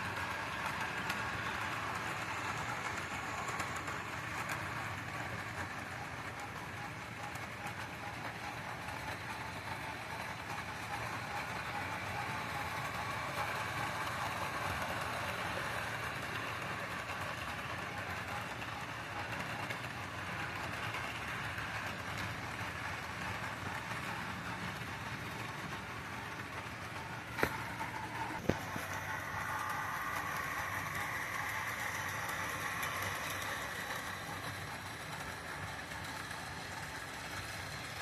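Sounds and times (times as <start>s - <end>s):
model train motors whirring: 0.0s - 38.0s
wheels rolling on track: 0.0s - 38.0s.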